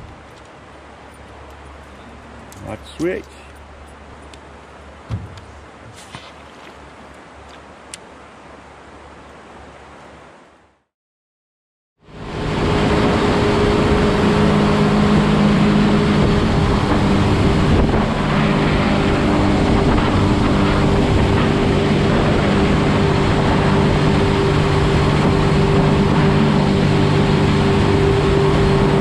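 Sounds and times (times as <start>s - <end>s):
boat engine droning: 0.0s - 9.9s, 12.0s - 29.0s
rush of wind and water: 0.0s - 10.9s, 12.0s - 29.0s.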